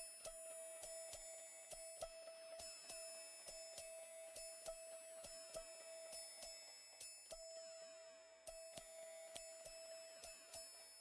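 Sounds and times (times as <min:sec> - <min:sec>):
very high steady whistle tone: 0:00.0 - 0:11.0.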